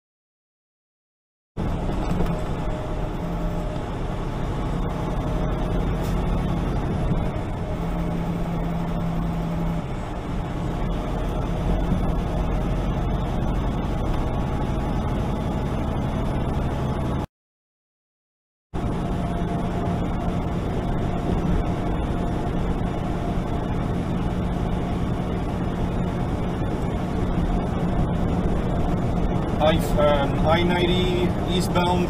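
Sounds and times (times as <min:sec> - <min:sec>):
diesel truck engine droning: 0:01.6 - 0:17.3, 0:18.8 - 0:32.0
tyre and road noise: 0:01.6 - 0:17.3, 0:18.8 - 0:32.0.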